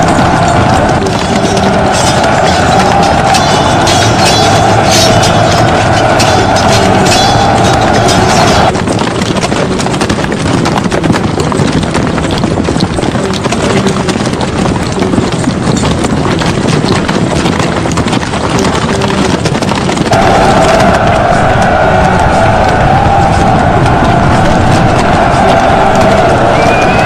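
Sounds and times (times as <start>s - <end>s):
horses galloping: 0.0s - 27.0s.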